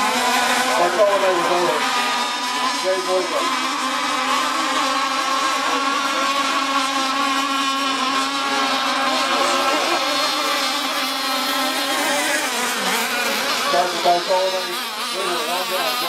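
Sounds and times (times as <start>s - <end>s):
buzzing motor drone: 0.0s - 16.0s.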